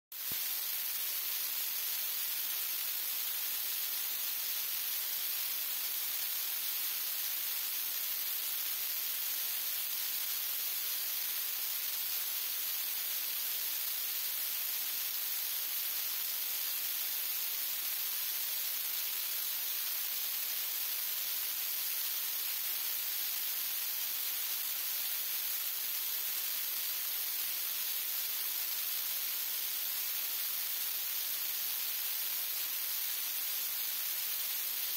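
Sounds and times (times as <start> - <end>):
steady hiss: 0.1 - 34.9.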